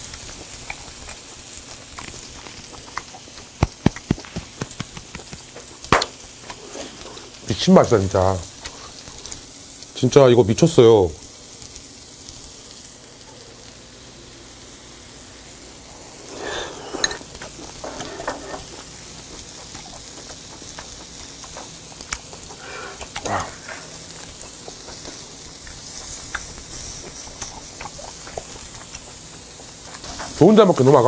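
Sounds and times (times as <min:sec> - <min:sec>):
meat sizzling: 0:00.0 - 0:31.0.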